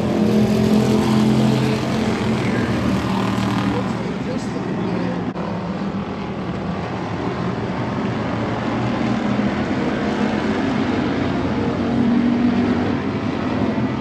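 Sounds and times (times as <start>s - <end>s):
stock car engines racing: 0.0s - 14.0s.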